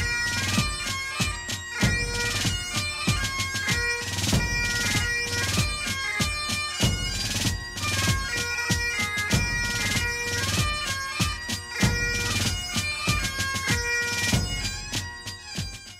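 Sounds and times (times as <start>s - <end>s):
bagpipe tune with drone: 0.0s - 15.9s
regular beat: 0.0s - 15.9s.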